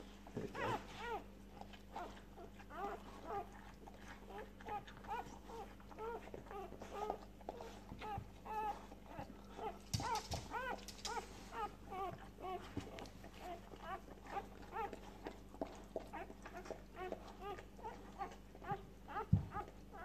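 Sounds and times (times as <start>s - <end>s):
puppies squeaking: 0.4s - 20.0s.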